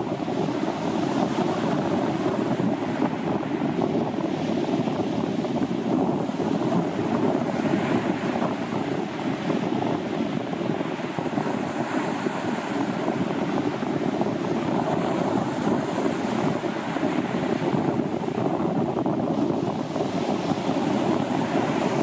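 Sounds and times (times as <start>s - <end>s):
waves breaking on beach: 0.0s - 22.0s.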